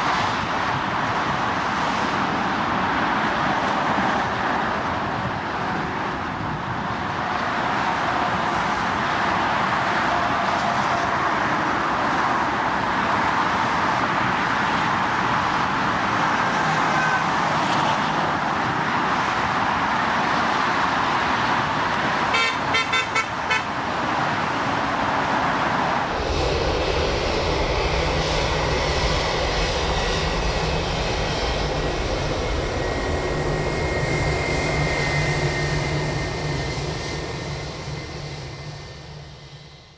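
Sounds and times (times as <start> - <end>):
high turbine whine: 0.0 - 39.9
jet engines running: 0.0 - 39.9.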